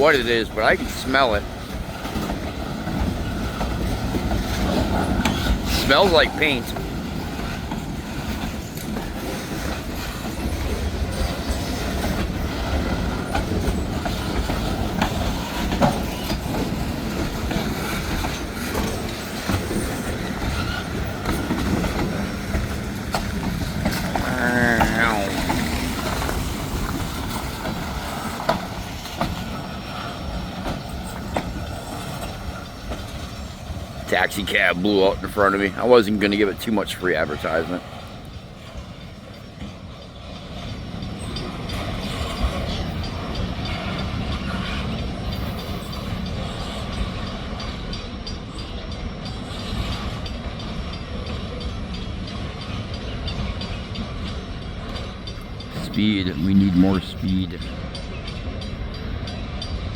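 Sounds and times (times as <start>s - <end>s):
freight train rumbling past: 0.0s - 59.9s
wheels clacking over rails: 0.0s - 59.9s.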